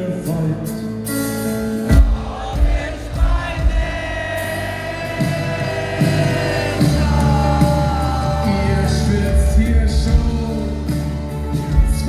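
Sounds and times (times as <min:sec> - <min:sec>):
heavy bass: 0:00.0 - 0:12.0
live band music: 0:00.0 - 0:12.0
low thumps: 0:01.9 - 0:12.0.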